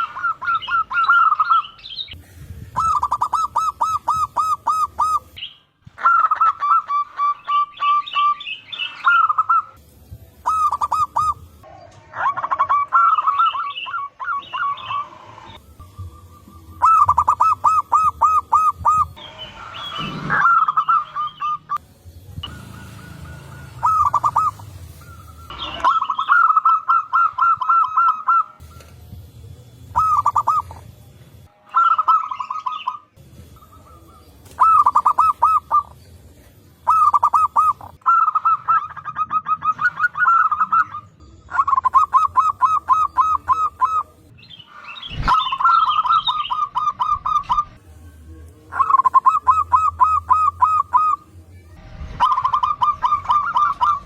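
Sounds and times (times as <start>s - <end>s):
doves cooing: 0.0s - 9.8s, 10.4s - 21.8s, 22.4s - 31.0s, 31.8s - 44.3s, 48.7s - 51.4s, 52.0s - 54.0s.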